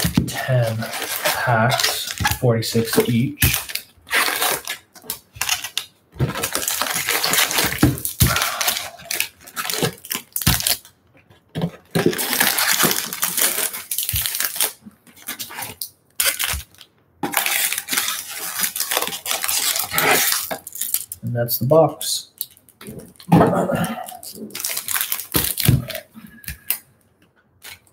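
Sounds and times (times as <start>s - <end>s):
foil packs crinkling: 0.0s - 10.9s, 11.6s - 21.2s, 22.3s - 26.8s.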